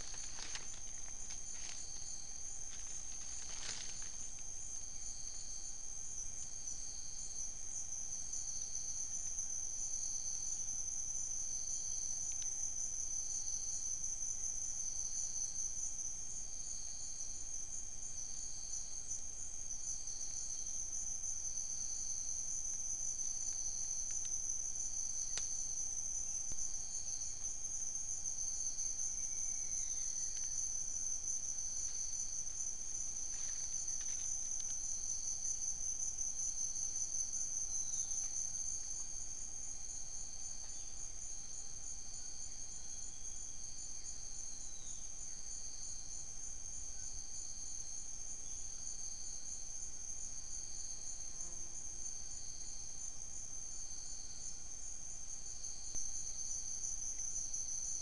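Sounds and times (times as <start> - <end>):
high-pitched insect trill: 0.0 - 58.0
pulsing insect call: 0.0 - 58.0.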